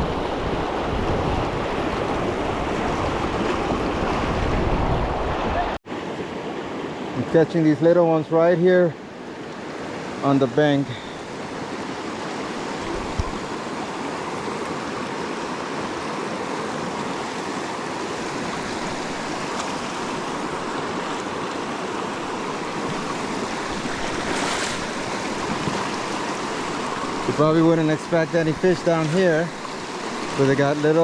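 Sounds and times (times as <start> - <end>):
fast stream water rushing: 0.0 - 31.0.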